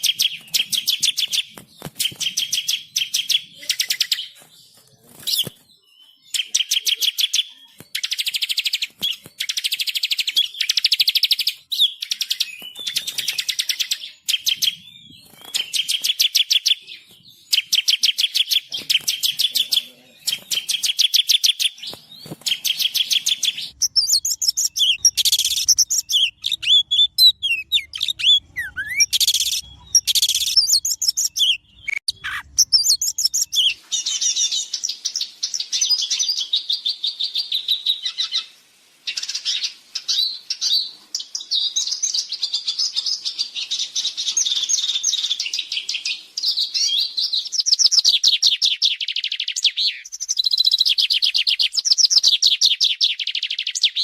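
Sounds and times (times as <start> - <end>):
bird twittering and whistles: 0.0 - 54.0
songbirds trilling: 0.0 - 54.0.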